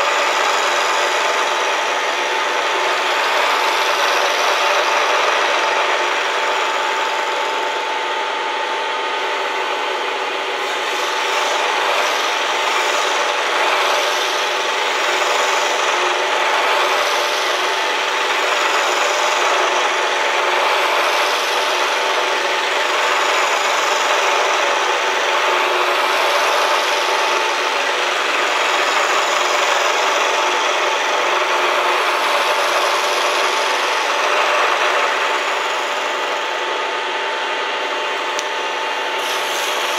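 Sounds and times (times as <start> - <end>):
cutter rasping: 0.0 - 7.9, 8.7 - 39.9
milling machine whine: 0.0 - 39.9.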